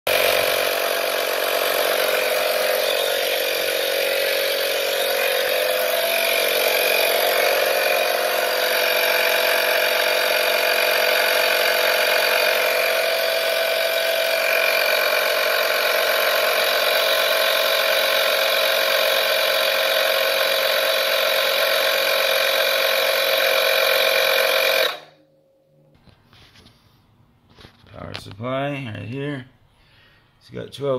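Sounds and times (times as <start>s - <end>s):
electric tire inflator running: 0.1s - 25.3s.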